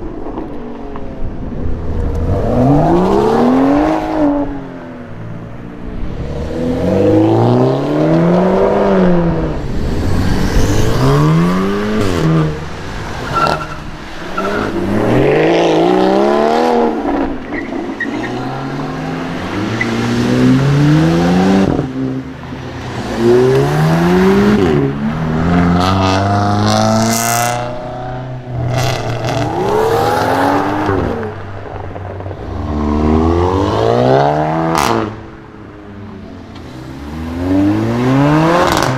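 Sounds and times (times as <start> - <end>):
sports cars accelerating hard: 1.9 - 5.0, 6.0 - 35.4, 36.2 - 38.9.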